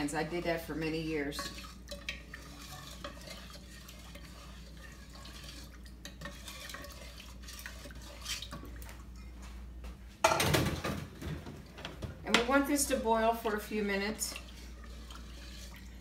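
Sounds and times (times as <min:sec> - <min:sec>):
wooden spoon stirring in saucepan: 0:00.0 - 0:09.8, 0:11.5 - 0:16.0.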